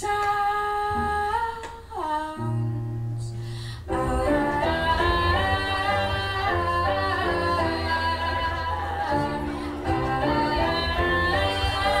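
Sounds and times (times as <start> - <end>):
background music with singing: 0.0 - 12.0.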